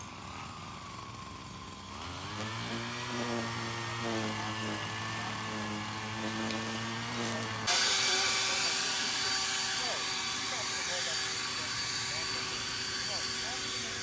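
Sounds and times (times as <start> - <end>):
small gas engine running: 0.0 - 14.0.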